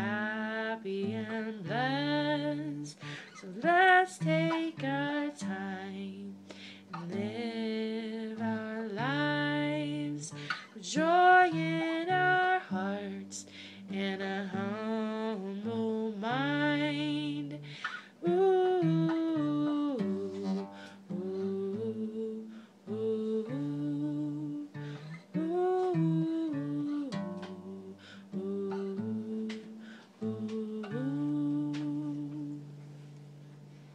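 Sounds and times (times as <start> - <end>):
woman humming a melody: 0.0 - 32.8
strummed acoustic guitar: 0.0 - 33.9.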